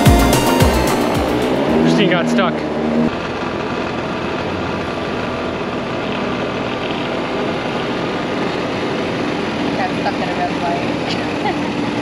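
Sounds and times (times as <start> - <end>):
go-kart motor drone: 0.0 - 12.0.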